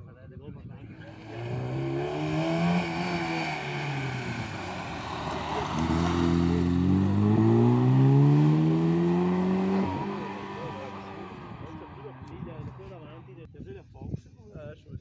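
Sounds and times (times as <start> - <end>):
car engine revving: 0.9 - 13.4.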